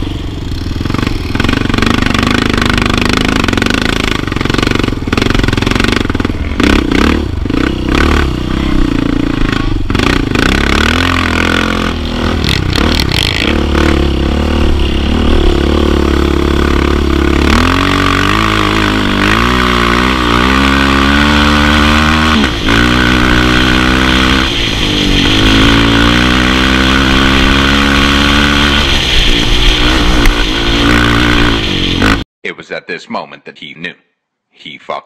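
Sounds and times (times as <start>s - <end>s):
quad engine revving: 0.0s - 32.2s.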